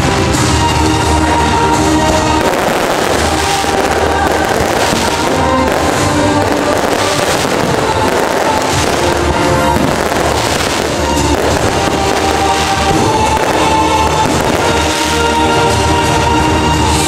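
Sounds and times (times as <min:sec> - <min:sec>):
fireworks bursting: 0:00.0 - 0:17.0
music playing: 0:00.0 - 0:17.0.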